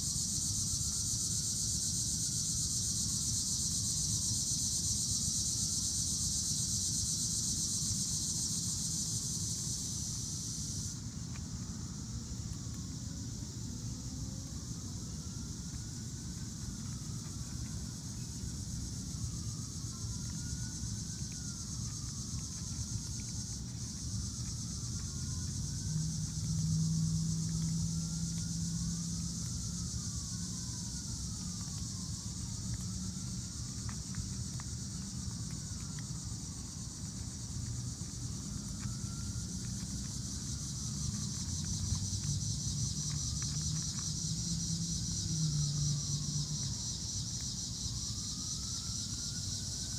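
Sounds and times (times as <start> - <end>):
crickets chirring: 0.0 - 49.9.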